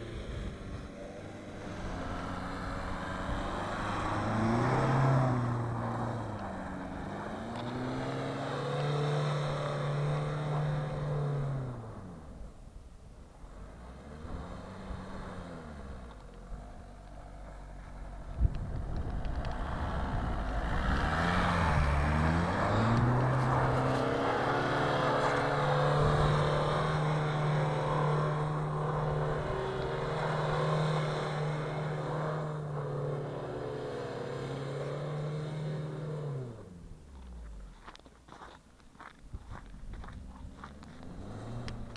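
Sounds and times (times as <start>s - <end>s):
car engine revving: 0.0s - 12.6s, 13.3s - 38.0s, 39.9s - 41.9s.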